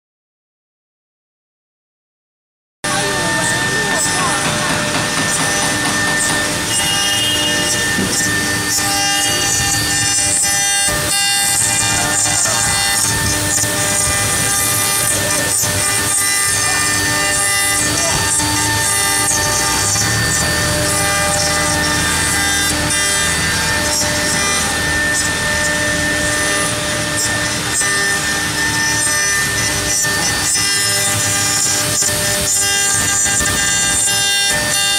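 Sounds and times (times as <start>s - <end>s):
router spindle cutting wood: 2.8s - 34.9s.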